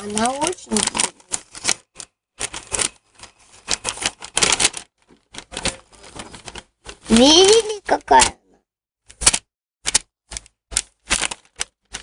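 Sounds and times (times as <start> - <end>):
paper rustling and crackling: 0.0 - 8.4, 9.1 - 12.0.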